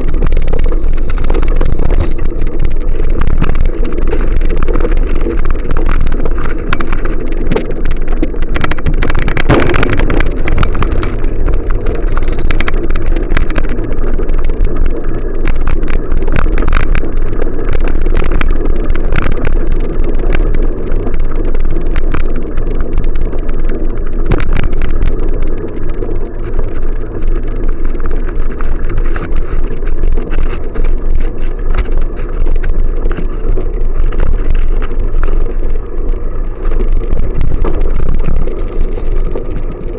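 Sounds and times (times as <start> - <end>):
bicycle clicks and rattles: 0.0 - 39.9
wind rumbling on microphone: 0.0 - 39.9.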